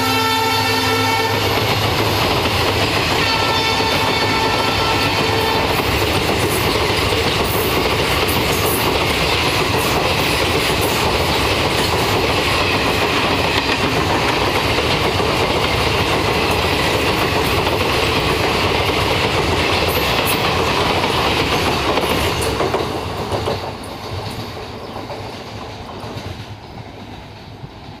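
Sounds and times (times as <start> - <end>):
train wheels clattering over rail joints: 1.2 - 28.0.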